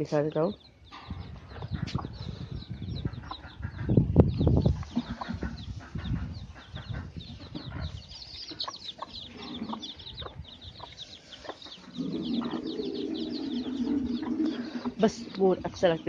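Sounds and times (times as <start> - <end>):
chicks and ducklings peeping: 0.1 - 16.0.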